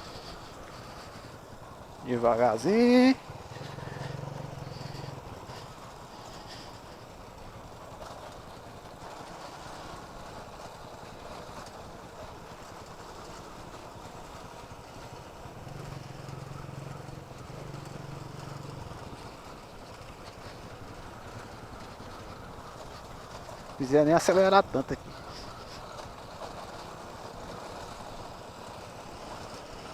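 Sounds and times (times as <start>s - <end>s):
motorcycle engine running: 0.0s - 29.9s
road and wind noise: 0.0s - 29.9s.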